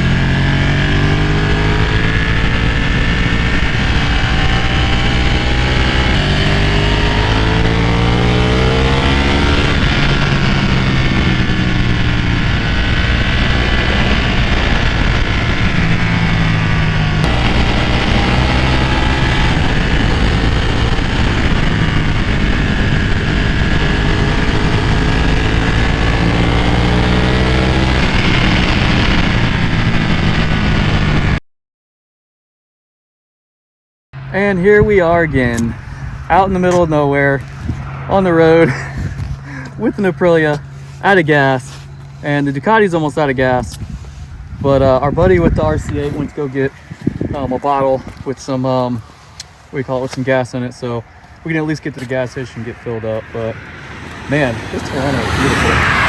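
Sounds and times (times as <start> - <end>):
motorcycle engine accelerating: 0.0 - 31.4, 34.2 - 56.0
wind rush: 0.0 - 31.4, 34.4 - 56.0.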